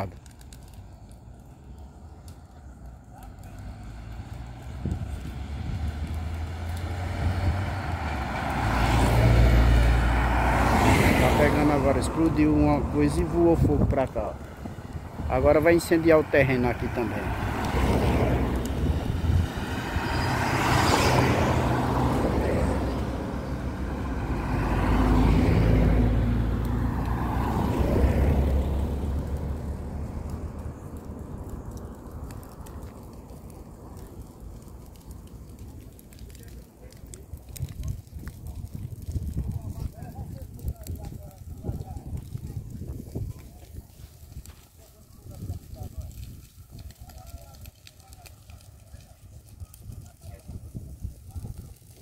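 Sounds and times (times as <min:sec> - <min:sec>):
car approaching: 0:00.0 - 0:49.8.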